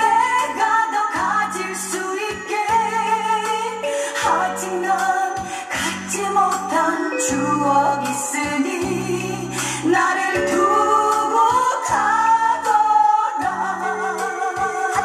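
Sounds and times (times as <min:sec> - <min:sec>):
woman singing ballad with band: 0:00.0 - 0:15.0.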